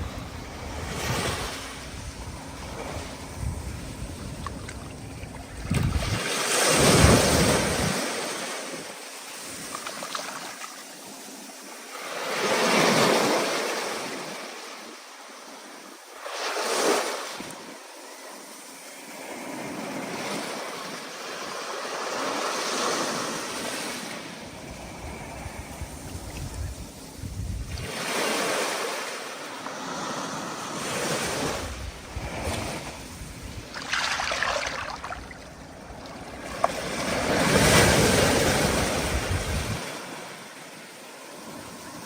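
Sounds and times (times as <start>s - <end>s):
ocean waves washing in: 0.0s - 42.0s
wind: 0.0s - 42.0s.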